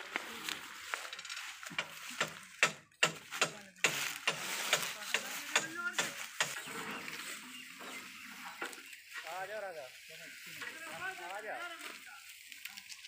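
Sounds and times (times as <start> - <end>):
dry leaves crackling and crunching: 0.0 - 13.0.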